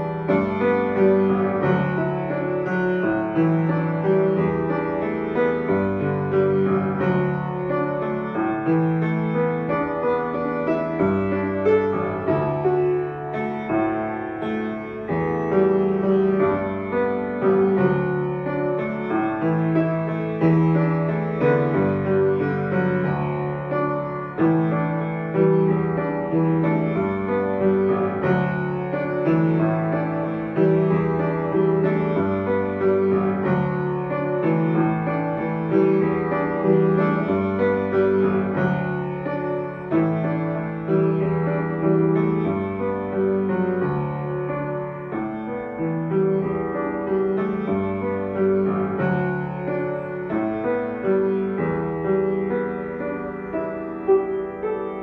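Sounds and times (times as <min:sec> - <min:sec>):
upright piano chords: 0:00.0 - 0:55.0.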